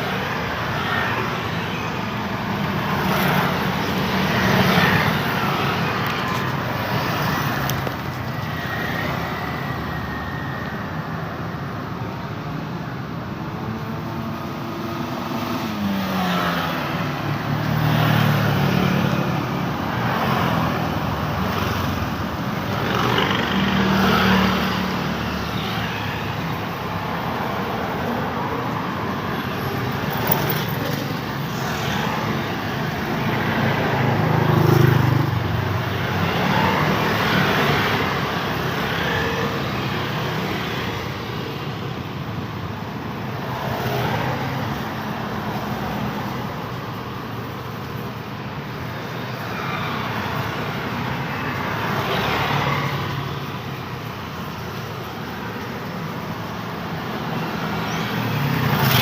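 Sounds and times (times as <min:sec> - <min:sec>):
vehicles passing close by: 0:00.0 - 0:59.0.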